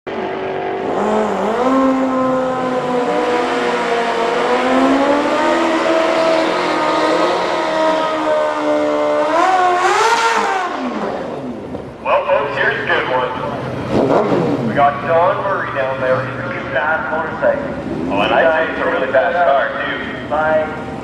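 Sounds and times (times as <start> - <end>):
racing engine running hard: 0.1 - 21.0.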